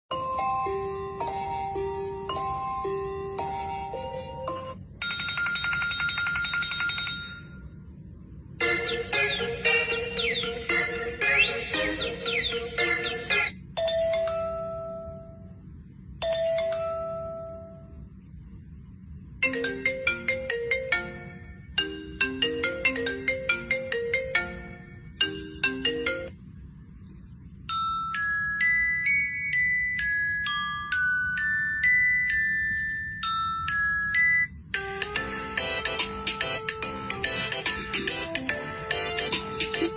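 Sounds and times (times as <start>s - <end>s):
higher ringtone tune: 0.1s - 7.8s, 8.6s - 15.5s, 19.4s - 26.4s, 27.7s - 39.9s
marimba-style ringtone melody: 0.1s - 7.8s, 8.6s - 15.5s, 16.2s - 18.0s, 19.4s - 26.4s, 27.7s - 39.9s.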